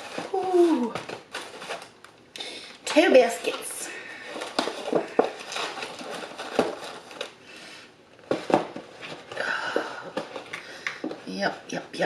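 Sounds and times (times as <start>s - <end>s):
takeout packaging rustling and crinkling: 0.0s - 11.5s.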